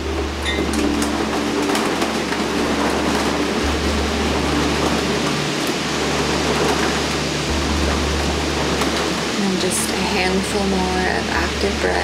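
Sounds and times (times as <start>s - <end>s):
low held hum: 0.0s - 12.0s
steady rain falling: 0.0s - 12.0s.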